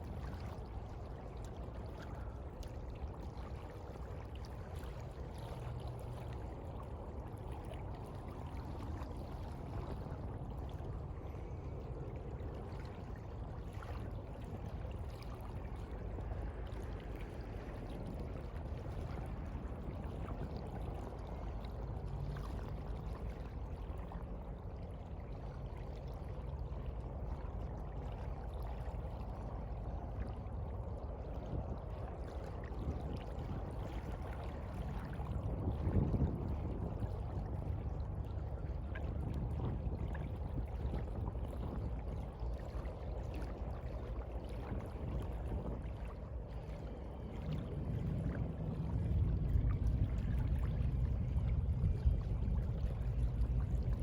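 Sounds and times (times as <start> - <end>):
sea water washing: 0.0 - 54.0.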